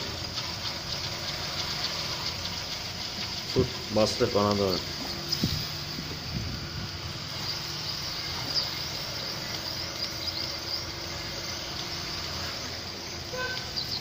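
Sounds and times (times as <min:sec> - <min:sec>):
water running with a hiss: 0:00.0 - 0:14.0.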